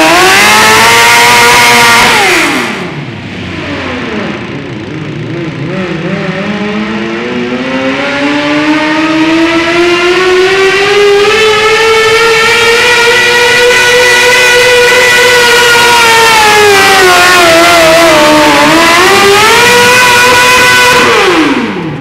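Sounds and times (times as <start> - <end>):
tractor engine revving under load: 0.0 - 22.0.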